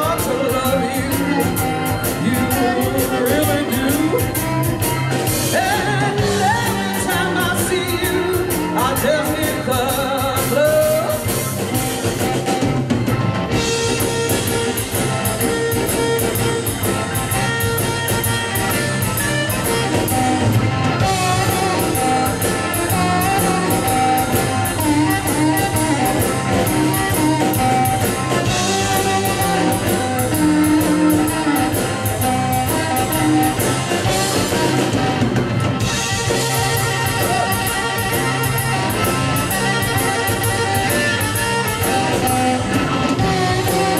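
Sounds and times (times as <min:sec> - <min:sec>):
bass: 0:00.0 - 0:43.9
drum kit: 0:00.0 - 0:43.9
electric guitar lead line: 0:00.0 - 0:43.9.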